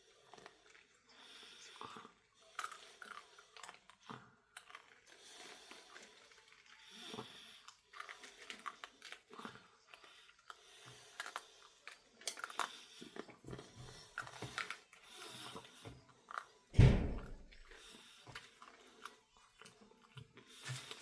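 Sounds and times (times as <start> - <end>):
cord rustling and crinkling: 2.6 - 21.0.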